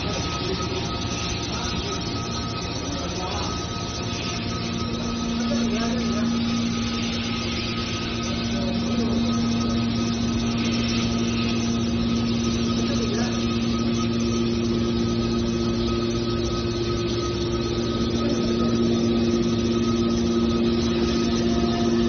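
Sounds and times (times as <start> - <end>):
metal baler humming and whining: 0.0 - 22.0.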